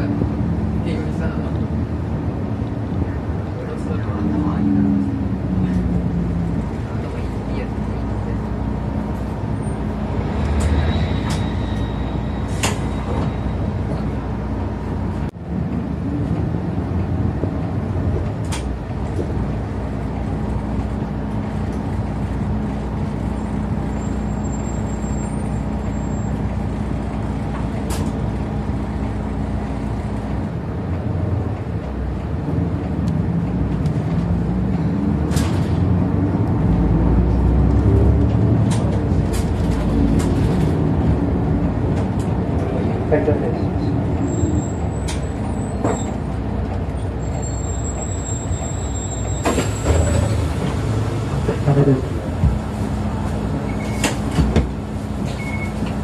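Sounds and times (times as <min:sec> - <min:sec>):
bus engine running: 0:00.0 - 0:56.0
road noise: 0:00.0 - 0:56.0.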